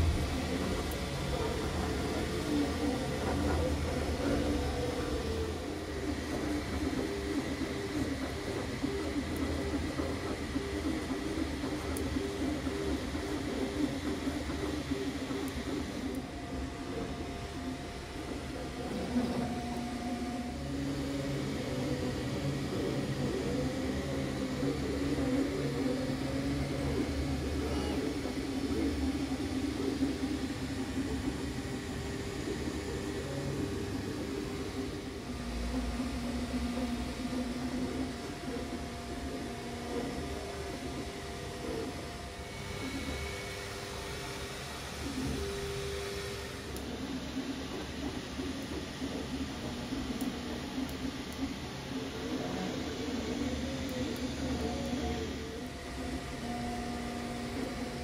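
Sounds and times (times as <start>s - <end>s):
steady hum: 0.0s - 58.0s
stepper motors whining: 0.0s - 58.0s.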